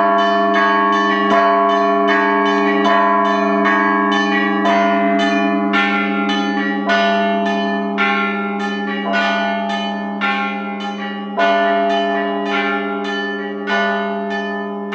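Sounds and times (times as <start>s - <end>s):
large bell humming: 0.0s - 14.9s
small church bells struck: 0.0s - 14.9s.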